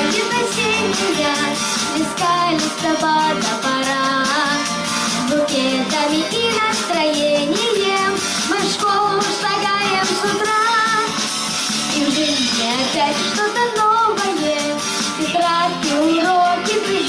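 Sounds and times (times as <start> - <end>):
child singing pop song: 0.0 - 17.0
instrumental backing music: 0.0 - 17.0.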